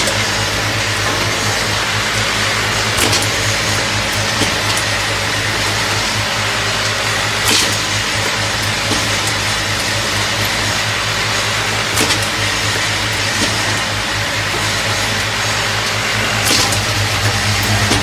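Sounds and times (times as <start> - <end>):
machine motor hum: 0.0 - 18.0.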